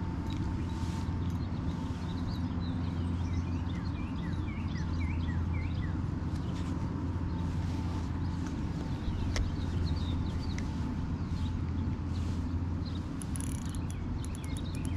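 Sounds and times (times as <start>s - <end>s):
steady low rumble: 0.0s - 14.9s
songbird chirping: 0.3s - 14.9s.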